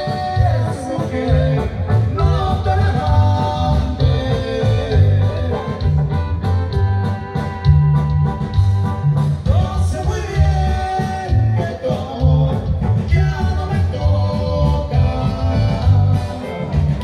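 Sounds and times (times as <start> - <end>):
bass line: 0.0 - 17.0
live band playing: 0.0 - 17.0
steady drumbeat: 0.0 - 17.0.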